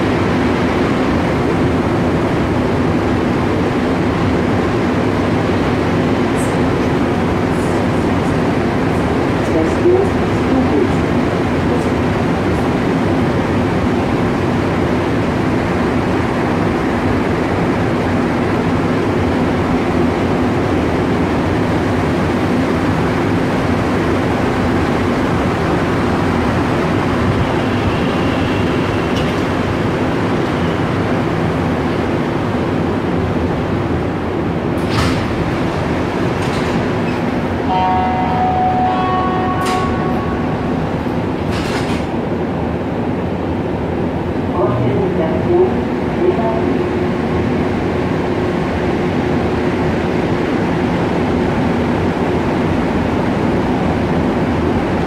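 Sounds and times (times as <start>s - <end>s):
subway train running: 0.0s - 55.0s.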